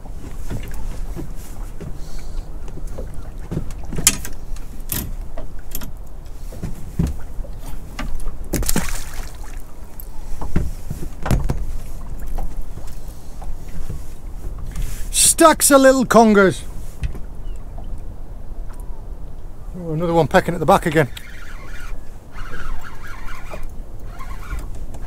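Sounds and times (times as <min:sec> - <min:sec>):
water lapping against hull: 0:00.0 - 0:25.0.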